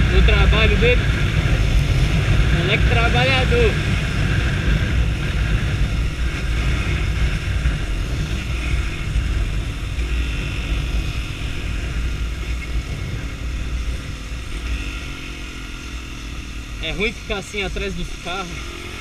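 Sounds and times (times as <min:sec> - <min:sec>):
motorcycle engine: 0:00.0 - 0:19.0
wind rumble on microphone: 0:00.0 - 0:19.0.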